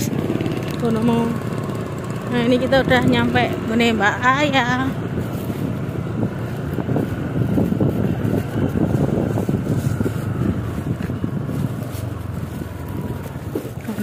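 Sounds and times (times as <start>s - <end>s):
motorcycle engine running: 0.0s - 14.0s
wind noise on microphone: 2.2s - 14.0s.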